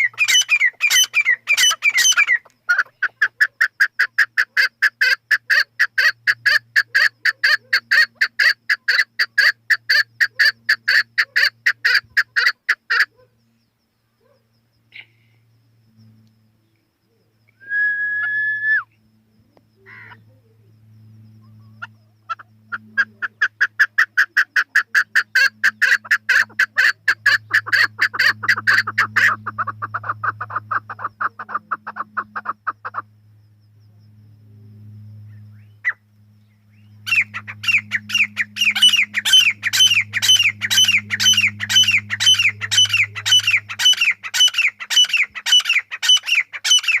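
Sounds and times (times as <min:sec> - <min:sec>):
partridge calling: 0:00.0 - 0:13.3, 0:19.7 - 0:33.1, 0:35.3 - 0:47.0
low steady hum: 0:05.2 - 0:47.0.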